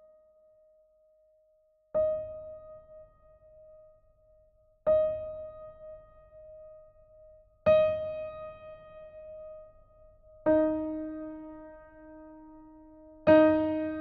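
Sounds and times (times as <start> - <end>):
slow sparse piano notes: 2.0 - 14.0.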